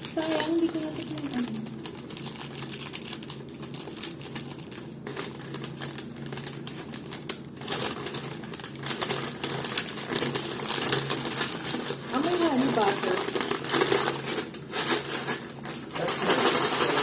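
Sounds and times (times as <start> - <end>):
food packaging rustling: 0.0 - 17.0
steady low hum: 0.0 - 17.0.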